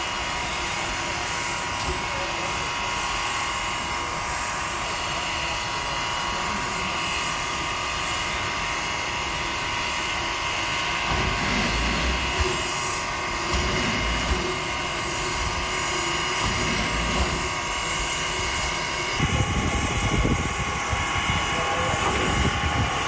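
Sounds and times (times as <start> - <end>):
steam hissing with whine: 0.0 - 23.0.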